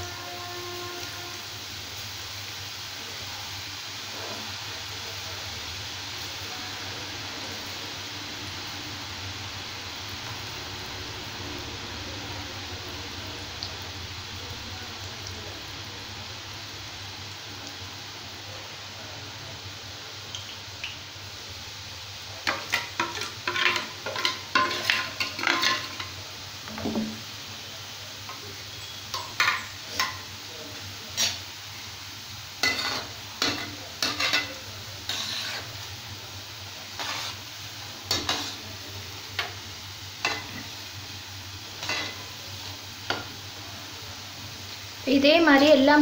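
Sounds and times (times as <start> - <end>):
batter sizzling in hot oil: 0.0 - 46.0.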